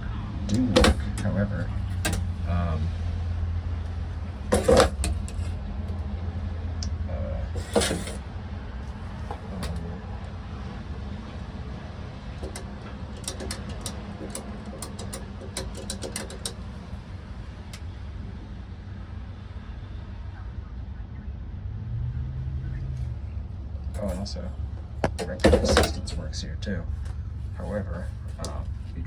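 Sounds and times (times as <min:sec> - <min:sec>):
faint traffic: 0:00.0 - 0:29.0.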